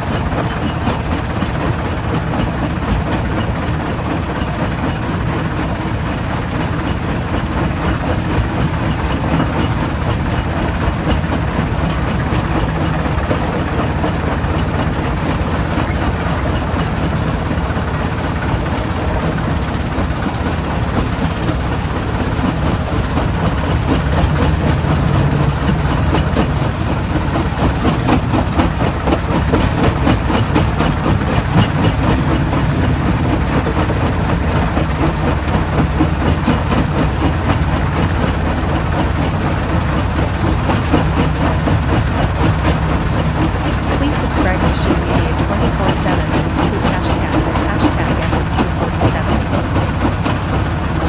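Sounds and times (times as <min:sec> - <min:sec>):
crushing machinery drone: 0:00.0 - 0:51.0.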